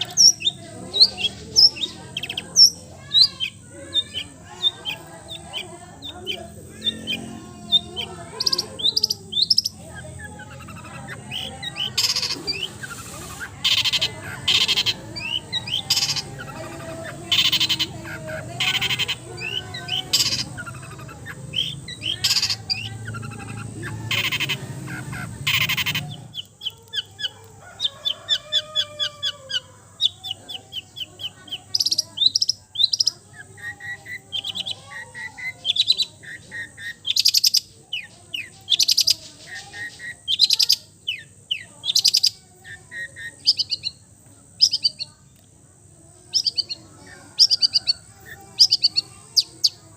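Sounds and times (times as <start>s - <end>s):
harsh rasping bird notes: 0.0s - 44.0s
high sparrow-like chirps: 0.0s - 49.9s
songbirds singing: 0.0s - 49.9s.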